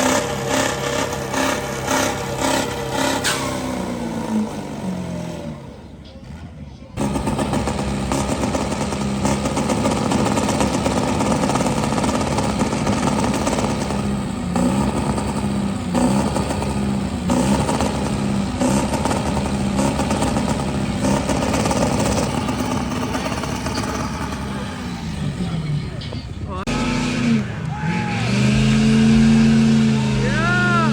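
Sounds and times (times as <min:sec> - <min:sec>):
truck engine revving: 0:00.0 - 0:30.9.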